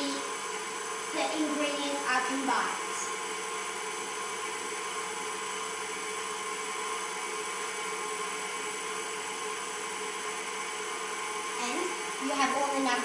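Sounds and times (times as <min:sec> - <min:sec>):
stand mixer motor whirring: 0:00.0 - 0:13.0.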